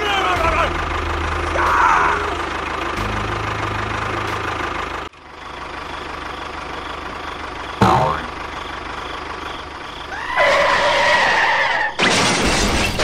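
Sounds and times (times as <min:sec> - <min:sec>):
vehicle engine idling: 0:00.0 - 0:10.8.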